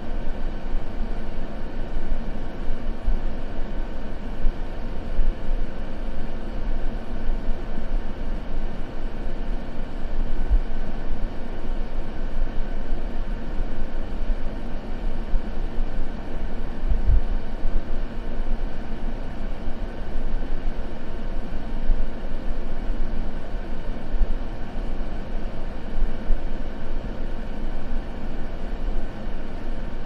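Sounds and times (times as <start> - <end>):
low white noise rumble: 0.0 - 30.0.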